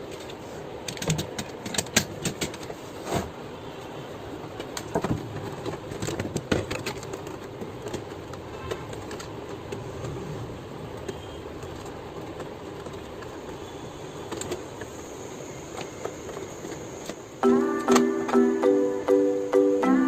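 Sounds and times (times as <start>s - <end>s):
background rumble and hiss: 0.0s - 20.0s.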